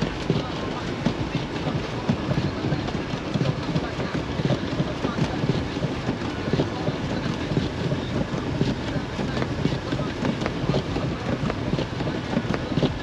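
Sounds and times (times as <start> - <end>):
tyres rumbling on snowy road: 0.0 - 13.0.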